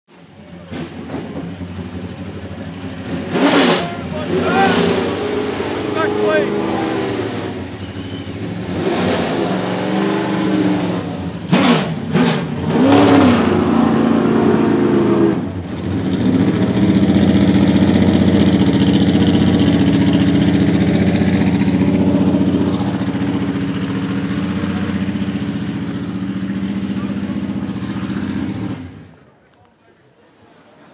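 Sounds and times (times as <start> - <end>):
race car engine revving and idling: 0.1 - 29.4.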